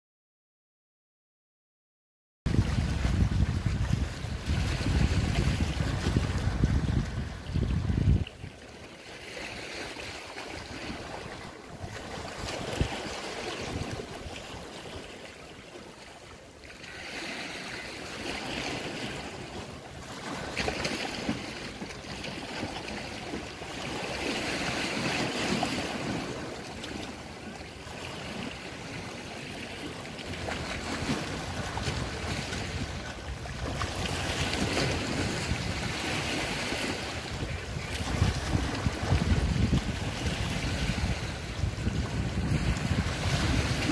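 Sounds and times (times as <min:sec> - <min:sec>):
wind rumbling on microphone: 0:02.5 - 0:16.0, 0:17.4 - 0:43.9
sea waves washing against rocks: 0:02.5 - 0:43.9.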